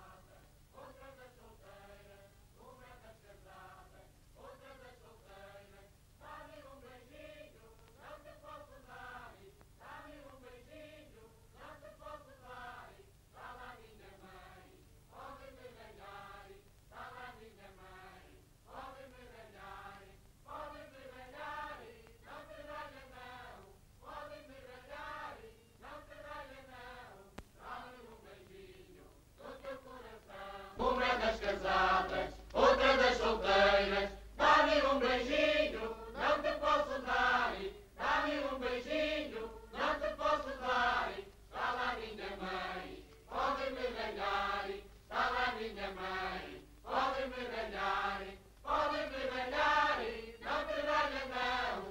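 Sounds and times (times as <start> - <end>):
choir singing chant-like melody: 0.0 - 51.9
low steady hum: 0.0 - 51.9.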